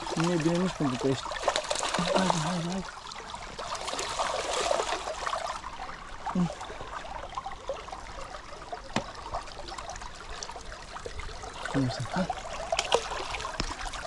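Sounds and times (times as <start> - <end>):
stream trickling over stones: 0.0 - 14.0.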